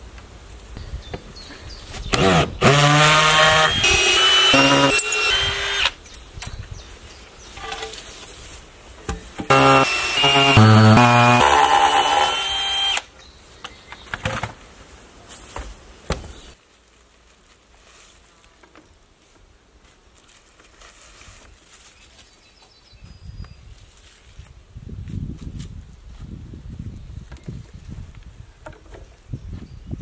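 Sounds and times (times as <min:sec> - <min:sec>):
faint background noise: 0:00.0 - 0:30.0.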